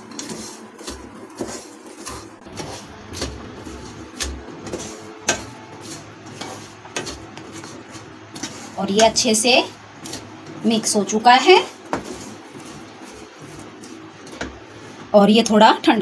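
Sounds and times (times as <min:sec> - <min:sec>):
wooden spatula scraping a pan: 0:00.0 - 0:15.2.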